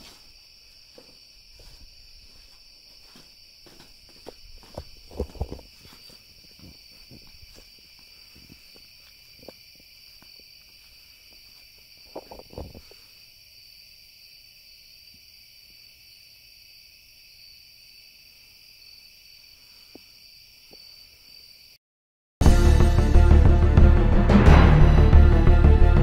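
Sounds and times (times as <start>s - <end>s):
night insects chorus: 0.0s - 21.8s.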